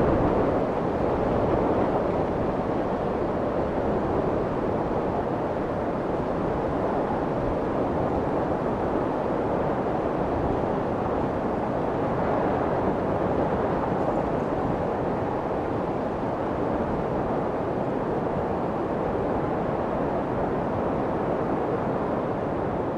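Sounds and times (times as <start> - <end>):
steady white noise hiss: 0.0 - 22.9.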